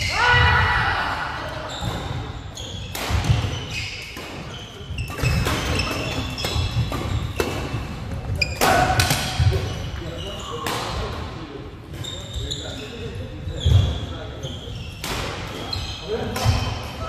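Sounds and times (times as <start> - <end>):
shoes squeaking: 1.5 - 11.1, 11.9 - 17.0.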